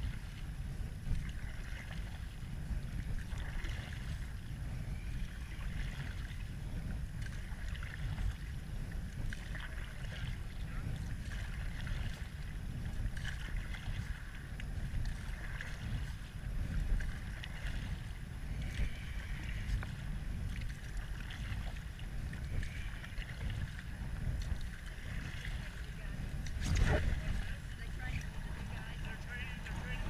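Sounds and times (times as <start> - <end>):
low rumble: 0.0 - 30.0
river water splashing: 0.0 - 30.0.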